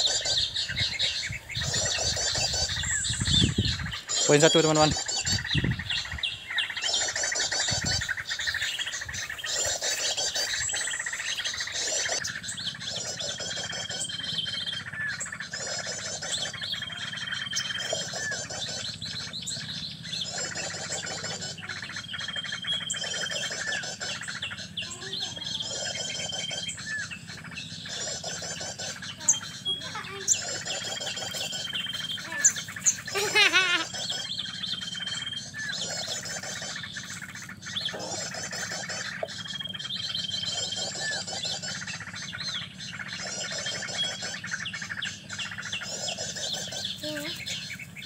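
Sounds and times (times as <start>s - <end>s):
sunbird twittering: 0.0s - 48.0s.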